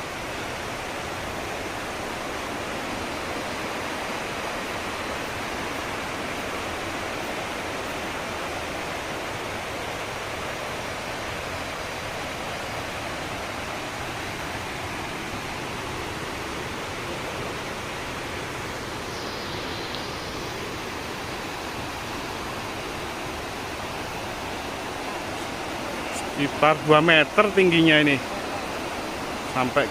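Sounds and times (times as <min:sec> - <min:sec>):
steady rushing noise: 0:00.0 - 0:29.9.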